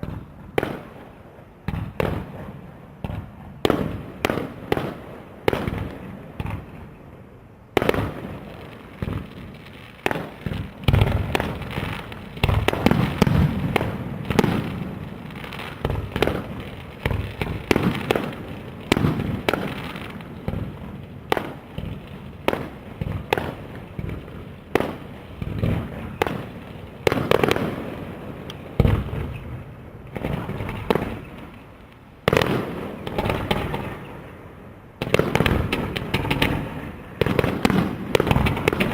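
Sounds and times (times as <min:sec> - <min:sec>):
fireworks bursting: 0:00.0 - 0:07.0, 0:07.7 - 0:34.4, 0:35.0 - 0:38.9.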